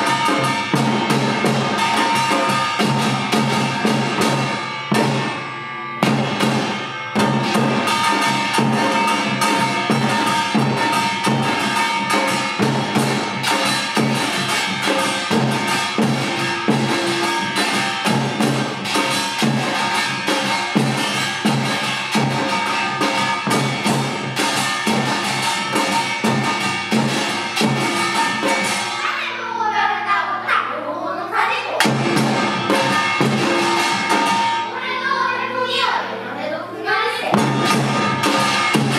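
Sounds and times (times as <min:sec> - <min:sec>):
drums playing fast rhythm: 0:00.0 - 0:29.2, 0:31.7 - 0:35.8, 0:37.2 - 0:38.9
gongs ringing: 0:00.0 - 0:29.4, 0:31.8 - 0:36.4, 0:37.3 - 0:38.9.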